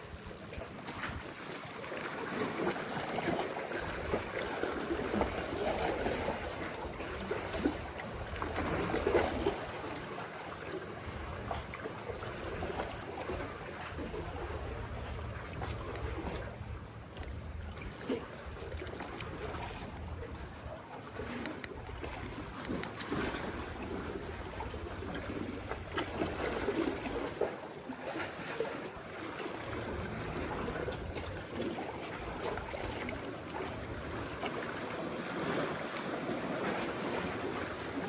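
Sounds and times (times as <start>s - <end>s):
sea water sloshing among blocks: 1.3s - 38.0s.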